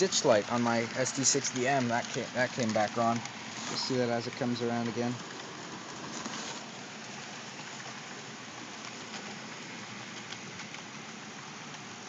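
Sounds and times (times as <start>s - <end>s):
model train whirring on track: 0.0s - 12.0s.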